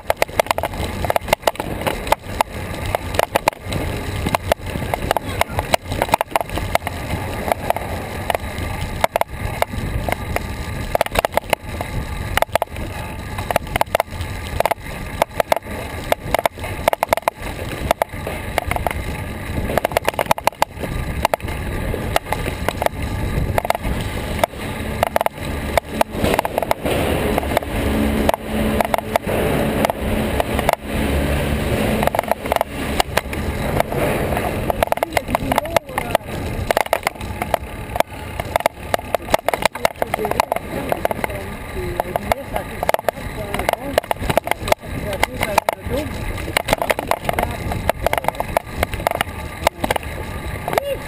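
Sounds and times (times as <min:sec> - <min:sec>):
bicycle road rumble: 0:00.0 - 0:51.0.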